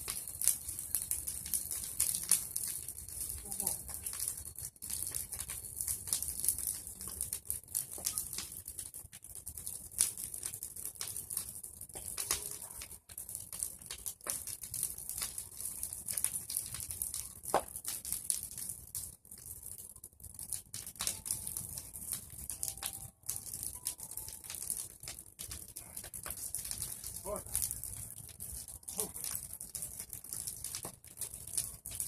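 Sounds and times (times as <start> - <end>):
bonfire crackling and popping: 0.0 - 32.0
fire hissing: 0.0 - 32.0.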